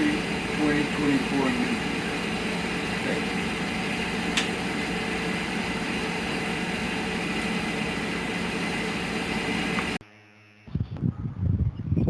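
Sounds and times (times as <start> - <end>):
machine hum with rushing noise: 0.0 - 11.6.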